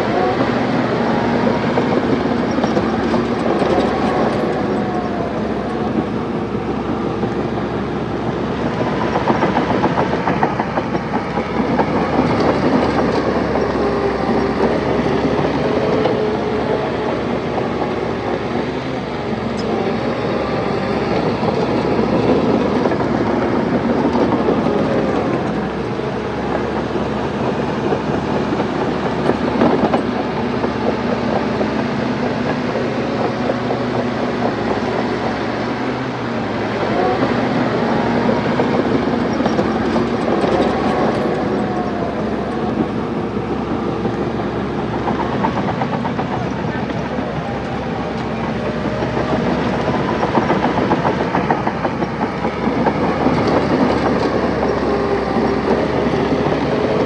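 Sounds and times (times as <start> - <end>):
bulldozer diesel engine: 0.0 - 57.0
steel tracks rattling: 0.0 - 57.0.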